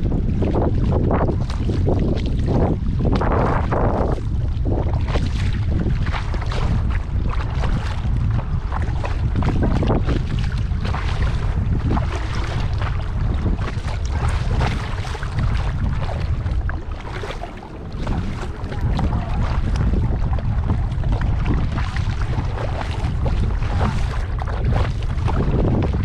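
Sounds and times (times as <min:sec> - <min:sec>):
water splashing around kayak: 0:00.0 - 0:26.0
wind buffeting microphone: 0:00.0 - 0:26.0.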